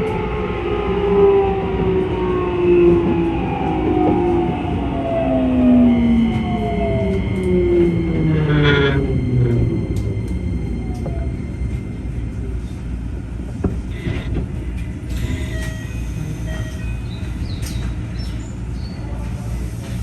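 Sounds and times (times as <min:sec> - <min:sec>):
train motor rumble: 0:00.0 - 0:20.0.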